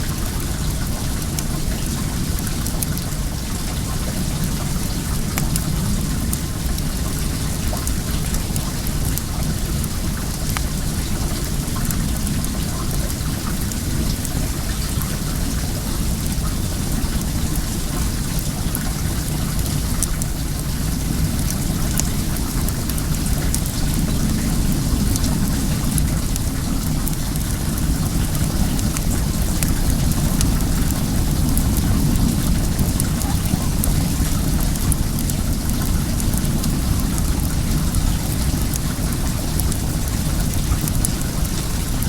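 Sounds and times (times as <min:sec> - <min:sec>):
water running and splashing: 0:00.0 - 0:42.0
bonfire crackling: 0:00.1 - 0:42.0.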